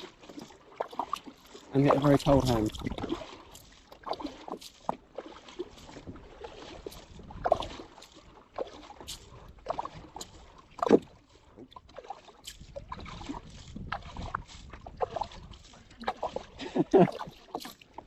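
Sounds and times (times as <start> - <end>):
water splashing scooped by hand: 0.0 - 18.0.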